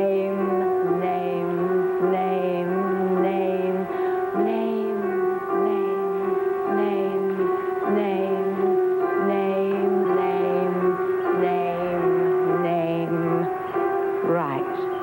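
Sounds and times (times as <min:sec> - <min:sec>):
long held notes in several voices: 0:00.0 - 0:15.0.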